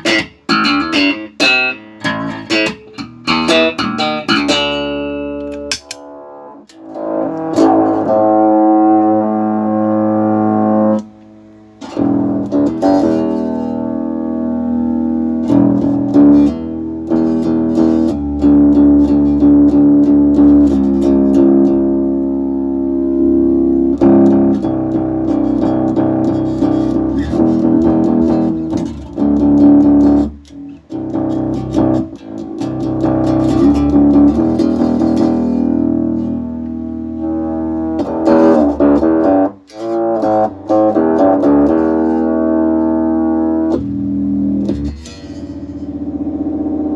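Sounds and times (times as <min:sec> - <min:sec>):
synth-coloured string instrument notes: 0:00.0 - 0:46.9.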